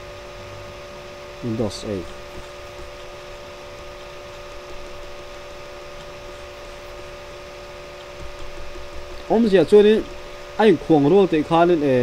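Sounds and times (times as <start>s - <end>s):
steady hum tones: 0.0s - 12.0s.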